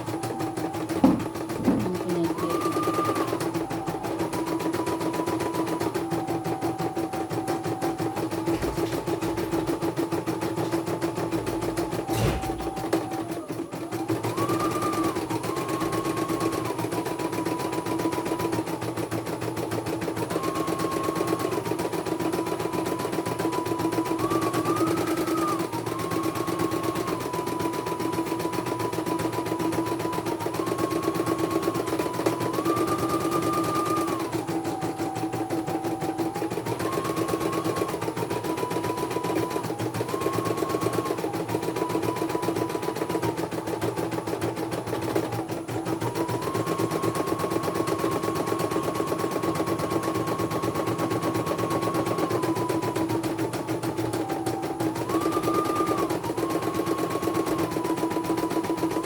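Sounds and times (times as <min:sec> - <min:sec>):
machine motor whine: 0:00.0 - 0:59.0.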